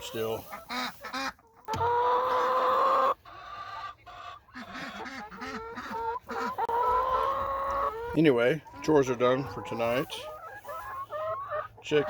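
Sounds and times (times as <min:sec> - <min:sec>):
hens drawn-out calls: 0:00.0 - 0:12.0
hens low clucks: 0:00.0 - 0:12.0.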